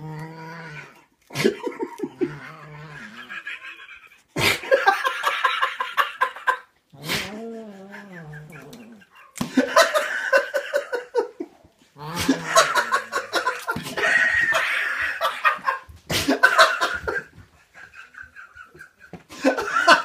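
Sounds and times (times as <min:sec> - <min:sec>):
person laughing hard: 0:01.3 - 0:06.6, 0:07.9 - 0:20.0.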